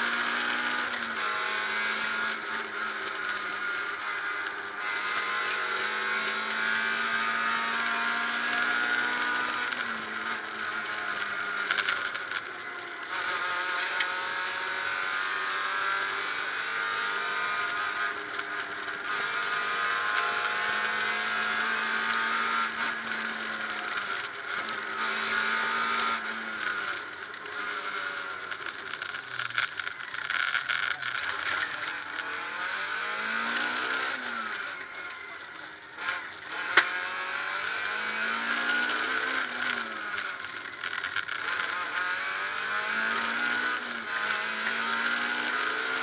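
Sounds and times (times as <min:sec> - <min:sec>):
rally car engine revving: 0:00.0 - 0:46.0
road and tyre noise: 0:00.0 - 0:46.0.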